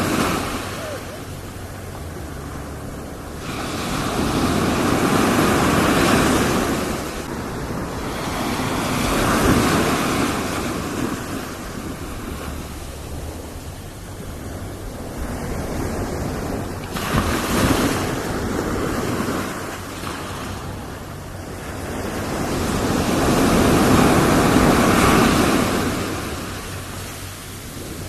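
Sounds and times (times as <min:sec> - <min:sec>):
ocean waves breaking on beach: 0:00.0 - 0:28.0.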